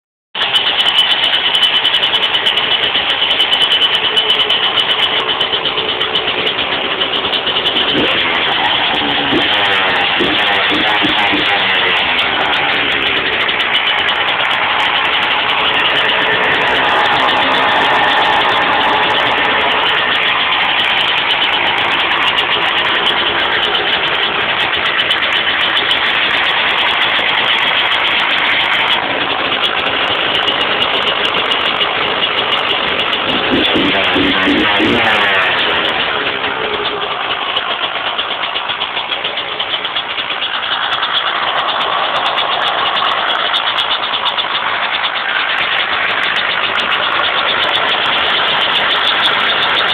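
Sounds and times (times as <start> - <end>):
two-stroke engine idling: 0.4 - 49.9.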